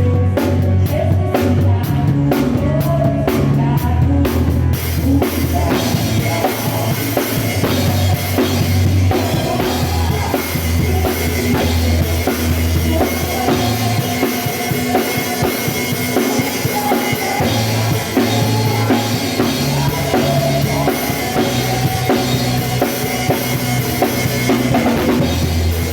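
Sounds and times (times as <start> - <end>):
backing track with bass and chords: 0.0 - 25.9
drum kit groove: 0.0 - 25.9.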